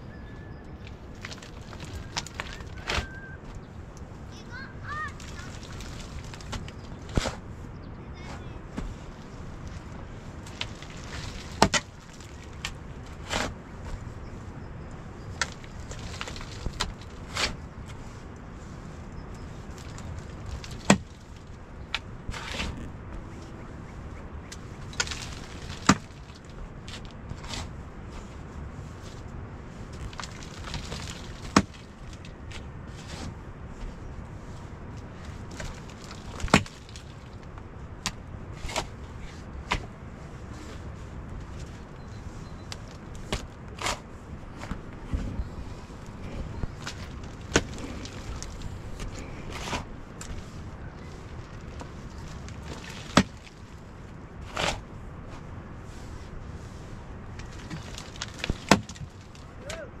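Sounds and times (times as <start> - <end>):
low background rumble: 0.0 - 60.0
low steady background noise: 0.0 - 60.0
scraping rustle: 0.3 - 59.8.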